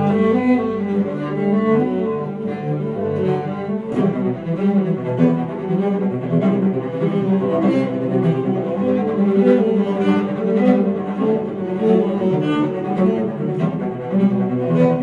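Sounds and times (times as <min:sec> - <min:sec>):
bowed cello duet: 0:00.0 - 0:15.0.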